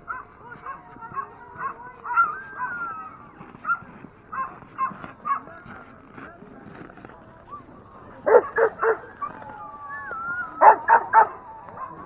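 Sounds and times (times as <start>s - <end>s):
sled dogs barking and yelping: 0.0s - 12.0s.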